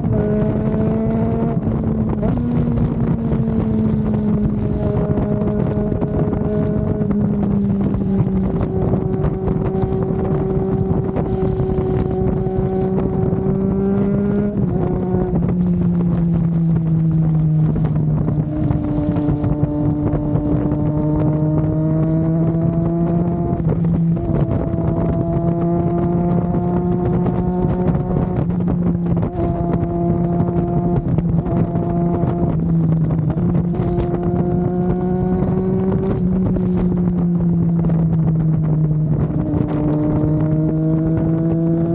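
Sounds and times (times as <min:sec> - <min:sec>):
motorcycle engine cruising: 0:00.0 - 0:41.9
wind rush on microphone: 0:00.0 - 0:41.9.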